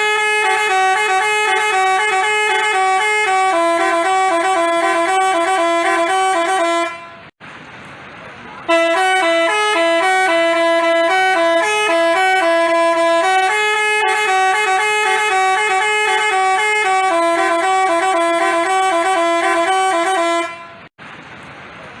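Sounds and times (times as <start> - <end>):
musical bus horn tune: 0.0 - 7.4, 8.7 - 20.9.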